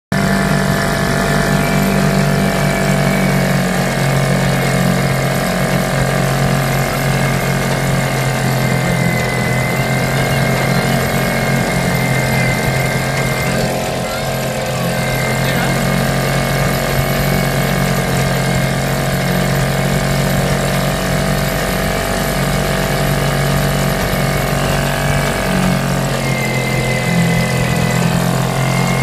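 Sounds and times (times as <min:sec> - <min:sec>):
outboard motor running: 0:00.1 - 0:29.0.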